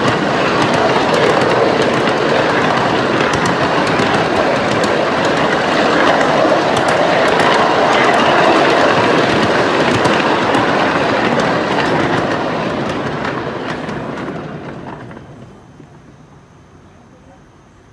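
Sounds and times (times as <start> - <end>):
small train rolling on track: 0.0 - 17.9
train wheels clicking: 0.0 - 17.9.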